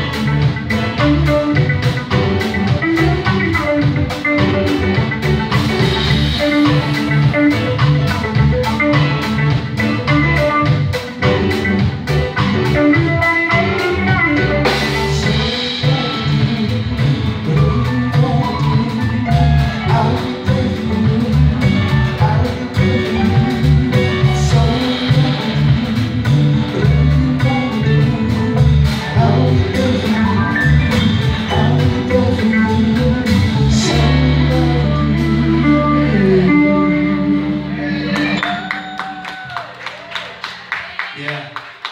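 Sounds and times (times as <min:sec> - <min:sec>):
steady drum beat: 0:00.0 - 0:35.6
live band instrumental music: 0:00.0 - 0:41.9.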